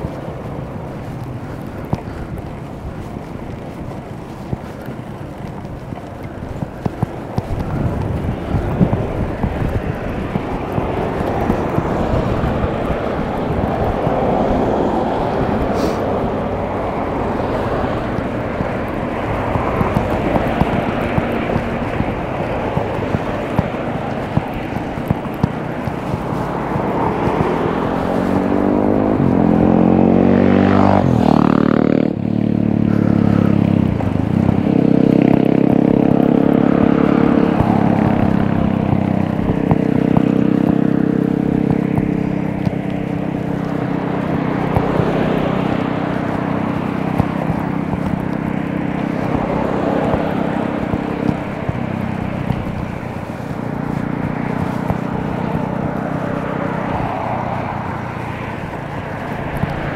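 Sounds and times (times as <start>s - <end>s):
highway traffic noise: 0.0s - 59.9s
vehicle passing by: 0.0s - 59.9s.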